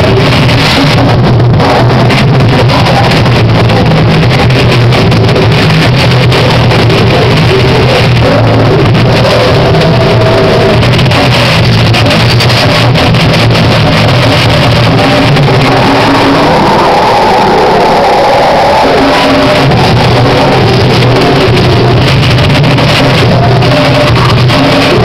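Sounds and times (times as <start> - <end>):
bass: 0.0 - 25.0
distorted guitars: 0.0 - 25.0
drums: 0.0 - 25.0
vocalist: 0.0 - 25.0.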